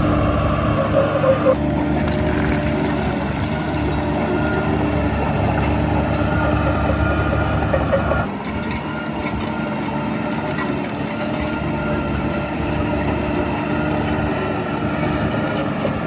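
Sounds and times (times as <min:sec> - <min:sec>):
diesel engine deep rumble: 0:00.0 - 0:16.0
machinery whining tones: 0:00.0 - 0:16.0.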